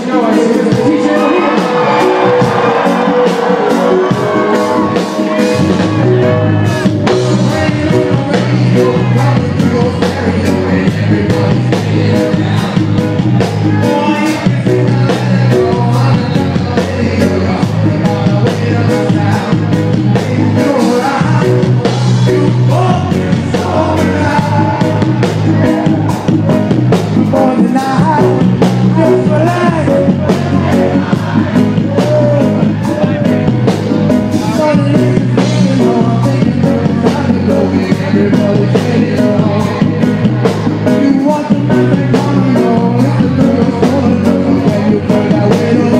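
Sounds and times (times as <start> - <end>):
live reggae band playing: 0.0 - 45.9
person singing: 0.0 - 45.9.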